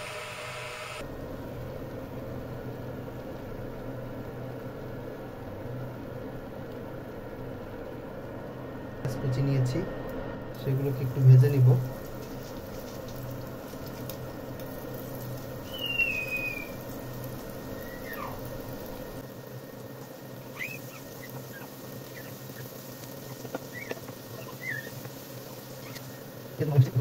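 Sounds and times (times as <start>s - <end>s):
onions sizzling in oil: 0.0s - 7.8s, 10.5s - 27.0s.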